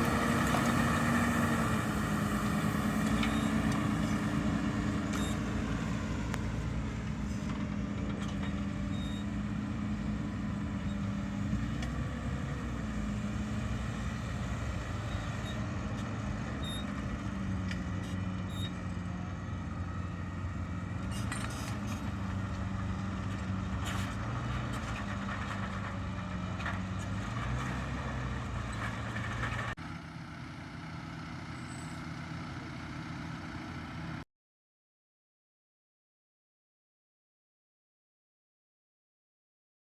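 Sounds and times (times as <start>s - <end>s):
tractor diesel engine under load: 0.0s - 34.2s.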